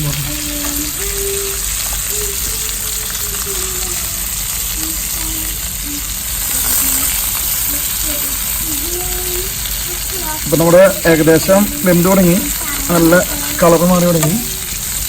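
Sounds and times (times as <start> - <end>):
chicken sizzling on hot rock: 0.0 - 15.0.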